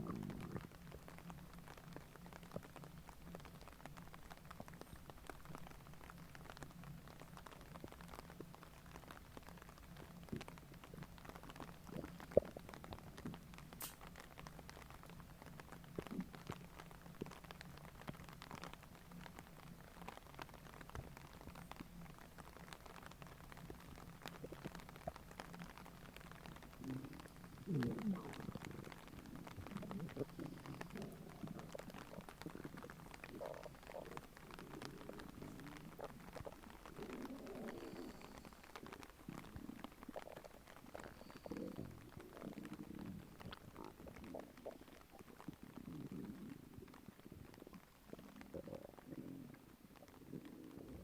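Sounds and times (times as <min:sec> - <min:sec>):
stomach gurgling: 0:00.0 - 0:51.0.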